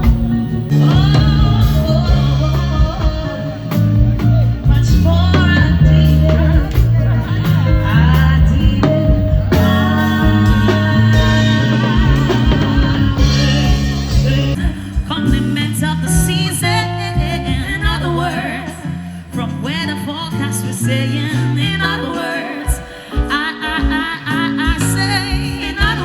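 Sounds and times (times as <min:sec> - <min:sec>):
live band music: 0:00.0 - 0:26.0
person singing with vibrato: 0:00.0 - 0:26.0.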